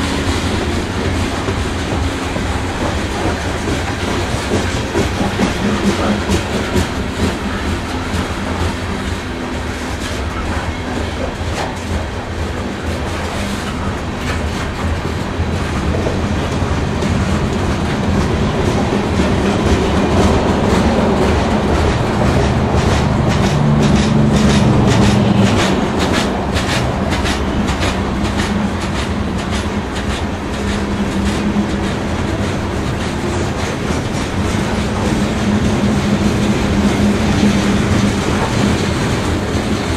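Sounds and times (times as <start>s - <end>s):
clickety-clack over rail joints: 0.0s - 39.9s
train wheels rumbling past: 0.0s - 39.9s.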